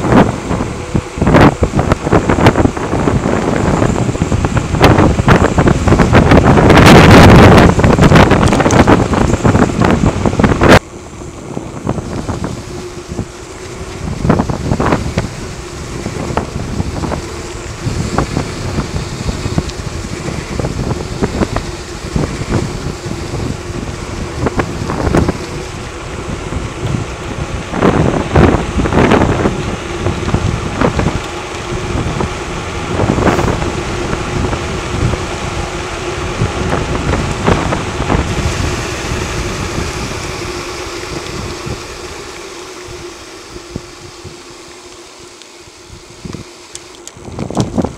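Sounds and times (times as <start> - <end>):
bike tyre noise on asphalt: 0.0 - 47.9
wind rushing over microphone: 0.0 - 47.9.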